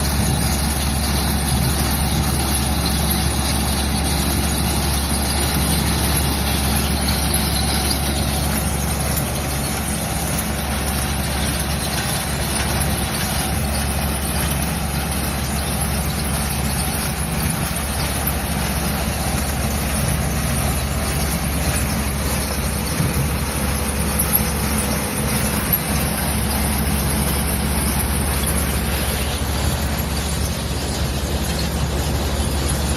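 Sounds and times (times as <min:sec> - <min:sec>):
farm machine humming: 0:00.0 - 0:32.9.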